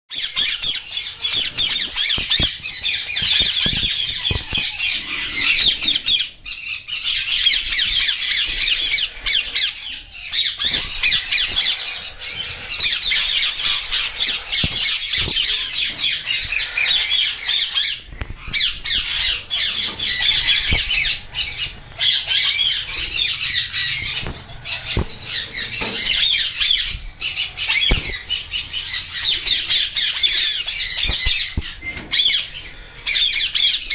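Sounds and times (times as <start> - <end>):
parrot chicks squawking: 0.1 - 33.9.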